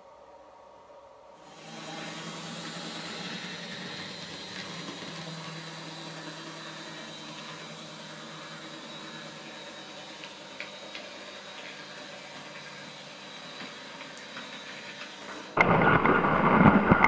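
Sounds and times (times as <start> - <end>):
model locomotive motor humming: 1.3 - 15.6.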